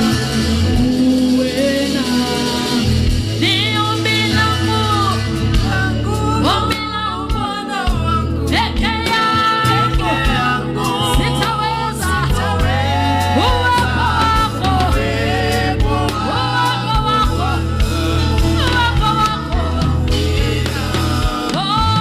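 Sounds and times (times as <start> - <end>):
gospel singers with band: 0.0 - 22.0.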